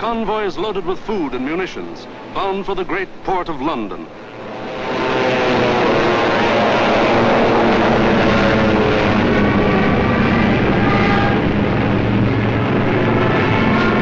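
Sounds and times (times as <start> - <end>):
propeller plane engines droning: 0.0 - 14.0.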